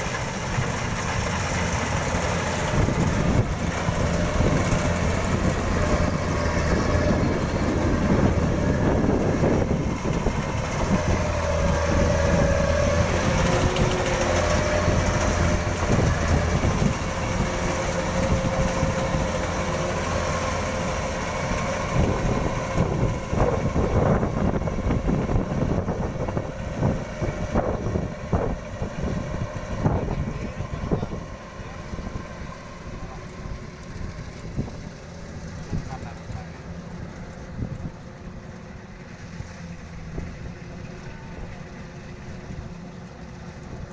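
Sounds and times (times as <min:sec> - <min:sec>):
combine harvester engine hum: 0:00.0 - 0:43.9
machinery whine: 0:00.0 - 0:43.9.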